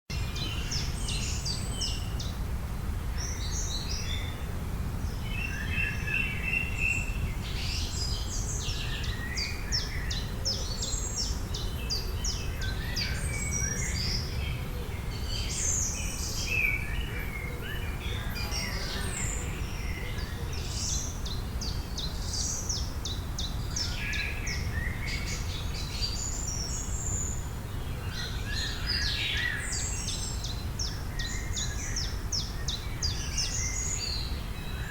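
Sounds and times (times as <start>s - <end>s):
birds singing and chirping: 5.1s - 34.9s.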